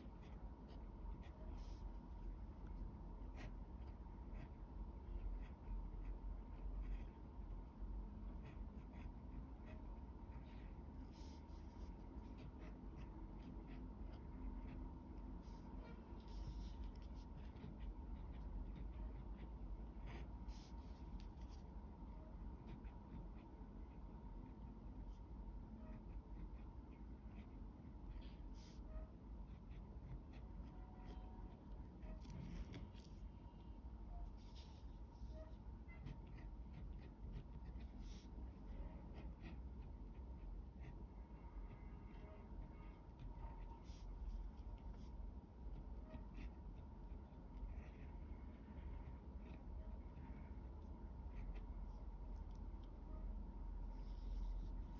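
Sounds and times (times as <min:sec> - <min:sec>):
pen scratching on paper: 0:00.0 - 0:24.0, 0:25.8 - 0:27.6, 0:28.6 - 0:33.3, 0:34.3 - 0:52.6, 0:53.9 - 0:54.9
low steady hum: 0:00.0 - 0:54.9.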